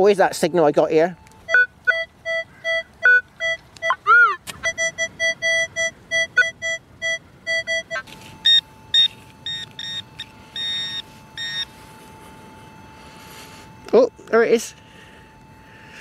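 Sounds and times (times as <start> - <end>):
faint steady tone: 0.0 - 16.0
metal detector target beeps: 0.4 - 16.0
pinpointer beeping in short pulses: 1.2 - 15.6.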